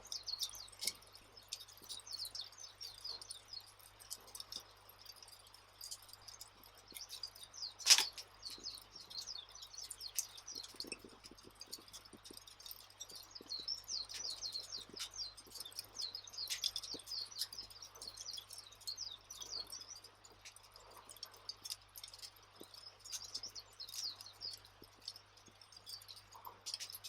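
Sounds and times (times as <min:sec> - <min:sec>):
campfire crackling and popping: 0:00.0 - 0:27.0
small birds twittering: 0:00.0 - 0:27.0.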